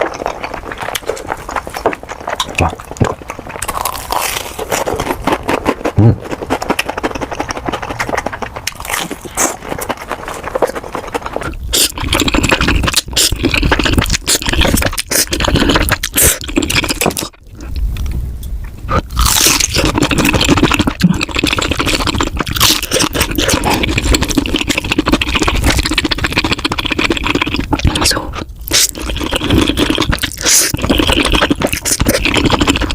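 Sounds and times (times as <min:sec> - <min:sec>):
chewing and mouth noises: 0:00.0 - 0:32.9.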